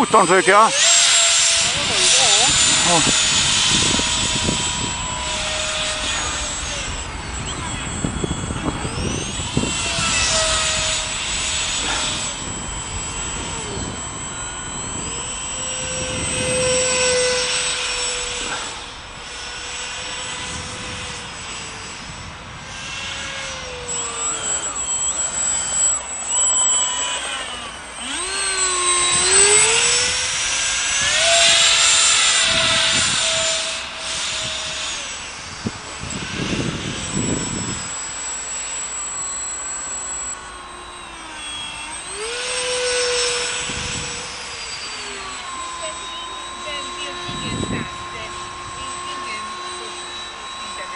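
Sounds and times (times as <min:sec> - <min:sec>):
model jet motor whine: 0:00.0 - 0:50.9.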